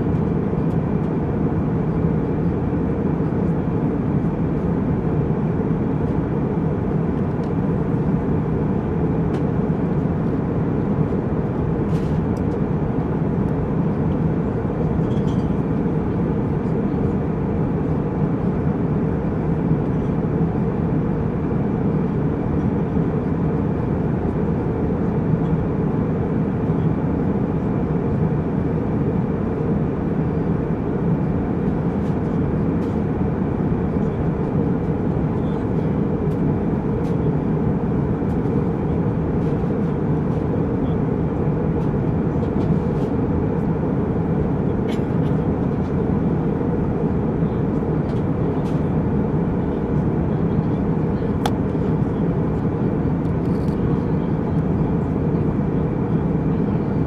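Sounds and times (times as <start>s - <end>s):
jet airliner cabin hum: 0.0s - 57.0s.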